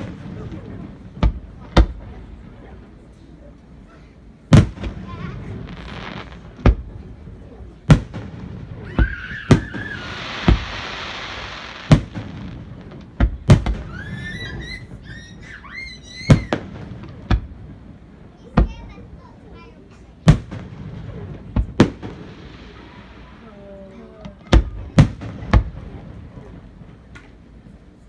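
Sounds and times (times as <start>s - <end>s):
fireworks booming: 0.0s - 27.8s
fireworks hissing crackle: 4.5s - 27.1s.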